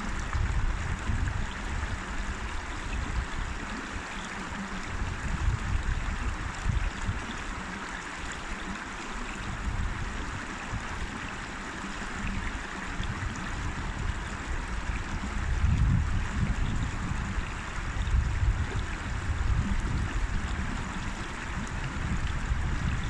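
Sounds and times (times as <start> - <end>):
river water rushing over stones: 0.0 - 23.0.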